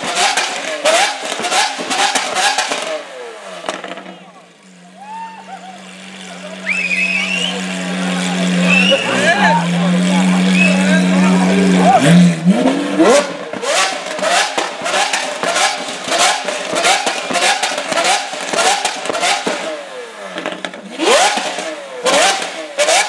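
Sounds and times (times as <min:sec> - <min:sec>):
exhaust cracks: 0:00.0 - 0:04.5, 0:06.4 - 0:23.0
car engine revving: 0:00.0 - 0:23.0.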